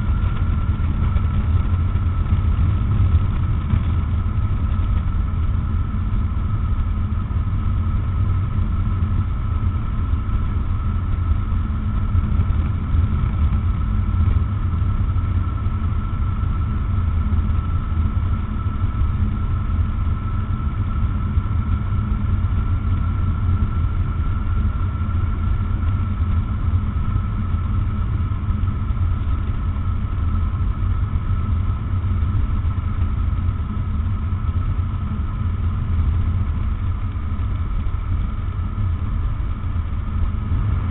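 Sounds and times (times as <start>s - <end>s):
airflow rushing over microphone: 0.0s - 40.9s
light aircraft engine running: 0.0s - 40.9s.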